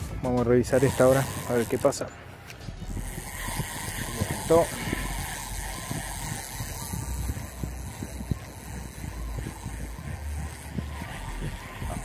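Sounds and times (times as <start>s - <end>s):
fishing reel ticking: 0.0s - 12.0s.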